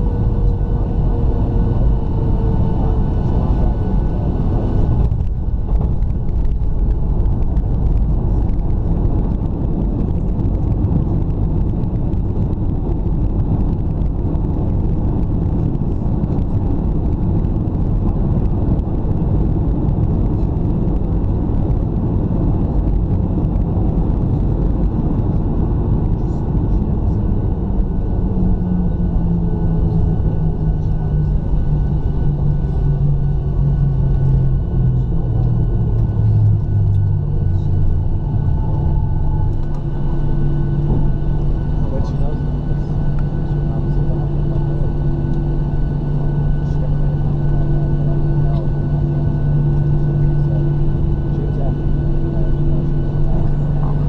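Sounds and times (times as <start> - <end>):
airliner cabin rumble: 0.0 - 54.0
low hum: 0.0 - 54.0.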